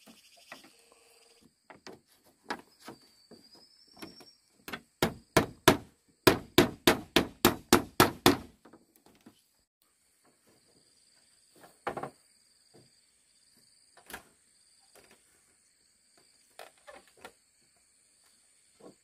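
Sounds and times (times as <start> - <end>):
insects chirring: 0.0 - 6.7, 8.7 - 19.0.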